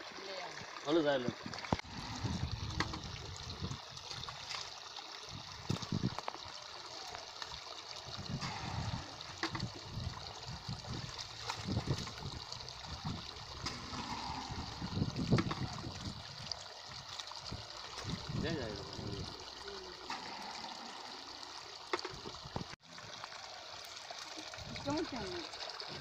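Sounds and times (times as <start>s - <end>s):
shallow water trickling: 0.0s - 26.0s
splashes of wading: 0.0s - 26.0s.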